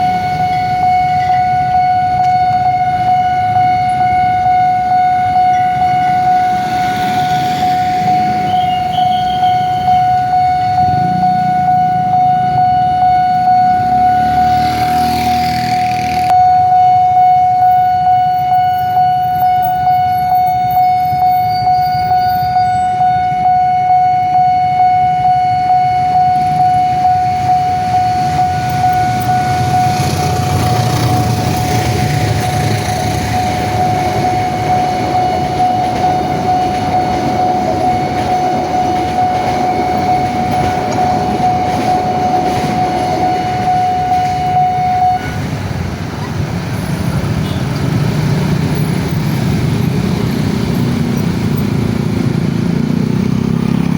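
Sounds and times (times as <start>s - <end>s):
level crossing alarm pulsing tone: 0.0s - 53.9s
passing train rumble: 0.0s - 53.9s.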